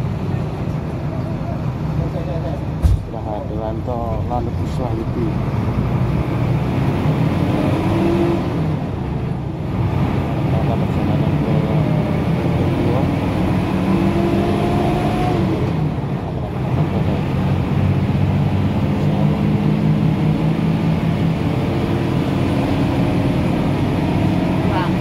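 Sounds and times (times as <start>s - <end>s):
road noise inside vehicle: 0.0s - 25.0s
vehicle engine drone: 0.0s - 25.0s.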